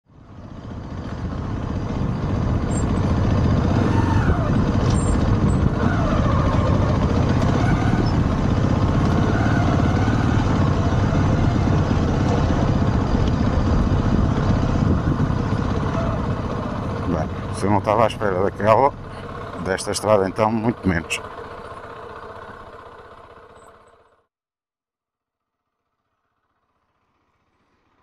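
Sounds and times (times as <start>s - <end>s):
wind and road noise: 0.1s - 24.1s
motorcycle engine running: 0.1s - 24.3s, 25.9s - 28.0s.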